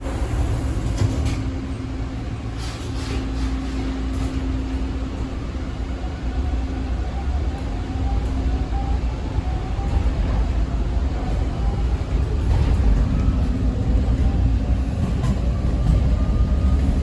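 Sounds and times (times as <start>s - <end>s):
train clacks: 0.0s - 5.6s, 6.6s - 17.0s
subway train rumble: 0.0s - 17.0s.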